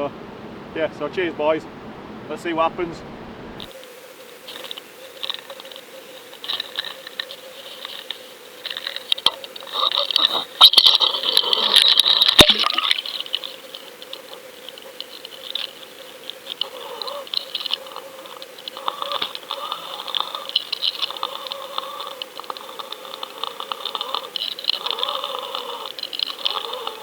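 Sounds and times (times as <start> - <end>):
crackly underwater water noise: 3.6 - 27.0.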